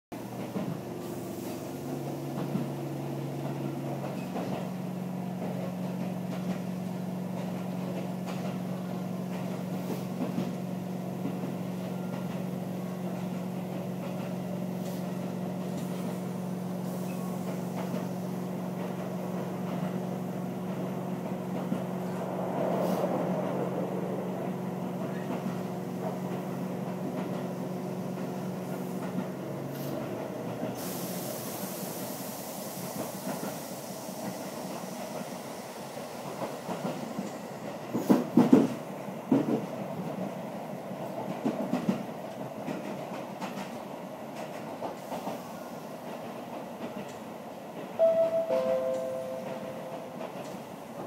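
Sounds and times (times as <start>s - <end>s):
train rumbling inside carriage: 0.1s - 51.0s.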